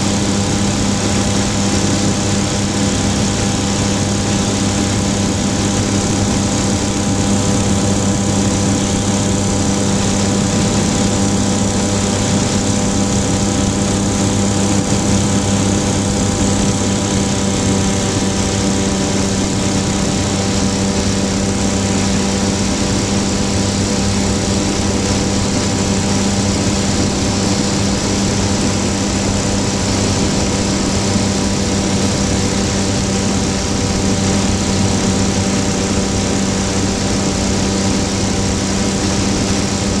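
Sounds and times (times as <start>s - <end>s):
light aircraft engine and propeller: 0.0s - 40.0s.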